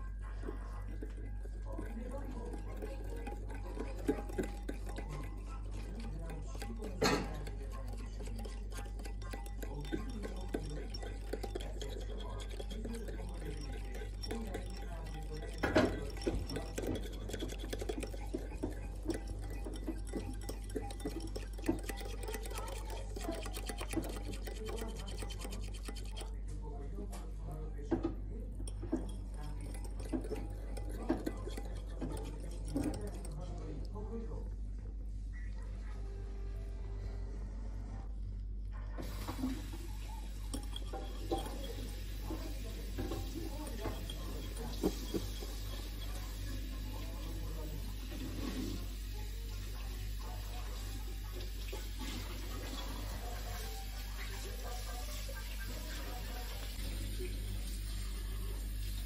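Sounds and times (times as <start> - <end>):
metal spoon stirring in glass bowl: 0.0 - 34.4, 39.0 - 59.0
steady low hum: 0.0 - 48.0.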